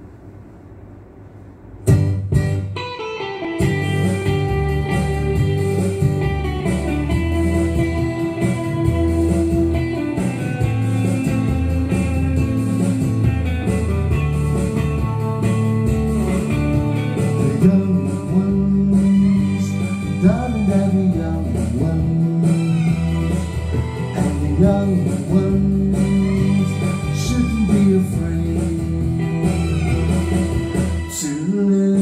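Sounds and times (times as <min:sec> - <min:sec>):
guitar-led instrumental music: 0:01.8 - 0:32.0.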